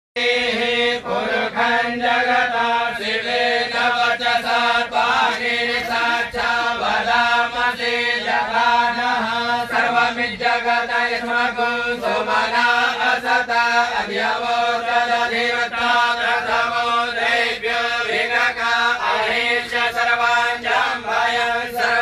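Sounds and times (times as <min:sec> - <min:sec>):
voices chanting mantras: 0:00.2 - 0:22.0.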